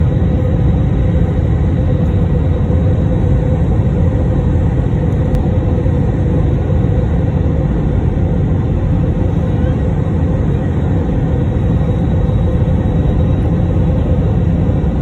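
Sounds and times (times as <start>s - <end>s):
low rumble of engines and airflow: 0.0s - 15.0s
steady hum: 0.0s - 15.0s.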